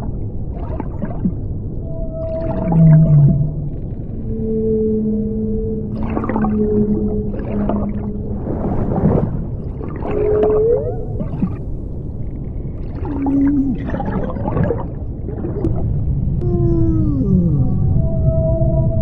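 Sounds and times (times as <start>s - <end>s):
continuous low rumble: 0.0s - 19.0s
whale-like gliding tones: 0.0s - 19.0s.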